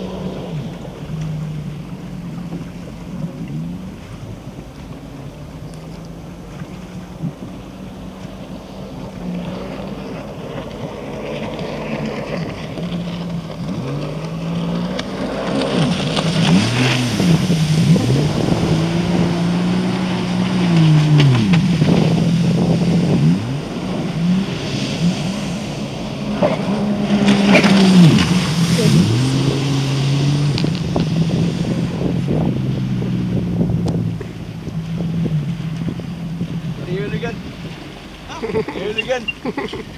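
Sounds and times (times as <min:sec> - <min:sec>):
jet ski engine revving: 0:00.0 - 0:39.9.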